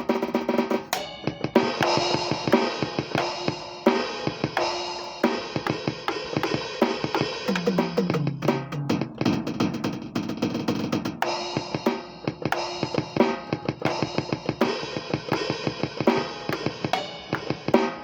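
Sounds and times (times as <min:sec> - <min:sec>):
drum strikes: 0:00.0 - 0:18.0.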